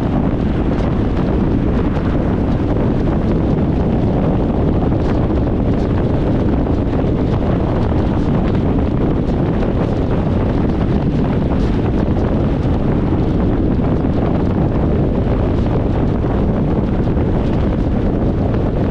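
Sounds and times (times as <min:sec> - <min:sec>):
car driving rumble: 0:00.0 - 0:18.9.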